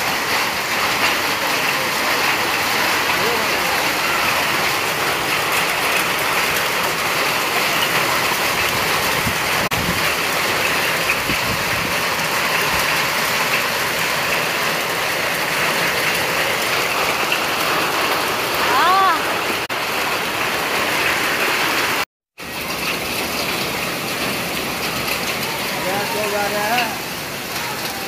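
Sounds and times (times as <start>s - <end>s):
hail and rain on canopy: 0.0s - 28.0s.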